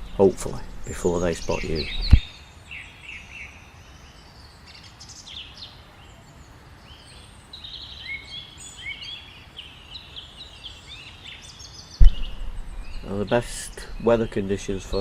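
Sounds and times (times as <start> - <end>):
faint background hiss: 0.0 - 15.0
small birds chirping and whistling: 0.0 - 15.0.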